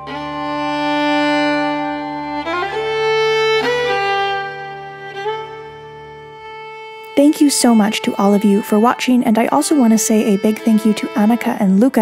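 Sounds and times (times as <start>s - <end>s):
slow violin melody: 0.0s - 12.0s.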